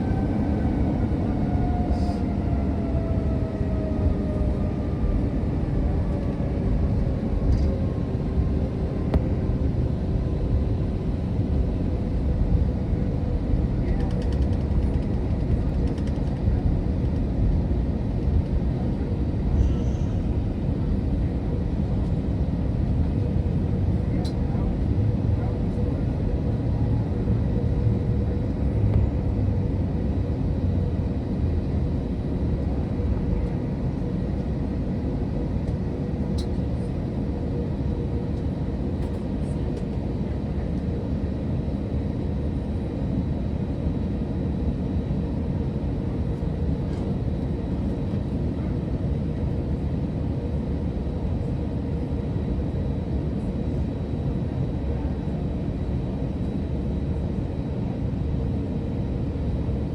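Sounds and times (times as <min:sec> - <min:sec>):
airplane cabin jet engine rush: 0:00.0 - 0:59.9.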